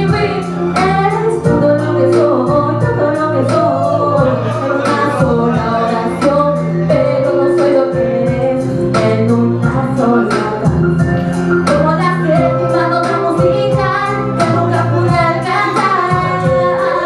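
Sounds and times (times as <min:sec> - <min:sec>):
hip-hop backing track: 0:00.0 - 0:17.0
person singing: 0:00.0 - 0:17.0.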